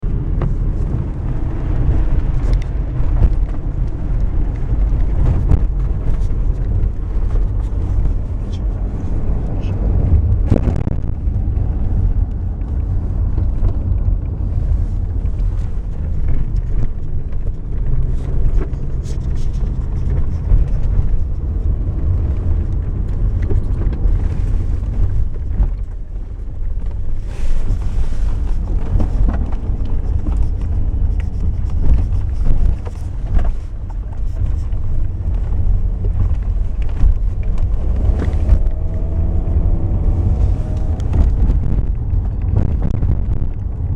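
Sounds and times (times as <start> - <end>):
road and wind rumble: 0.0 - 43.9.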